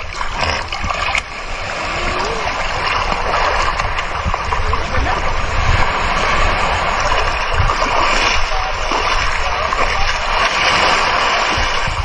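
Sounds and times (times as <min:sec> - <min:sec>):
seawater sloshing: 0:00.0 - 0:12.0.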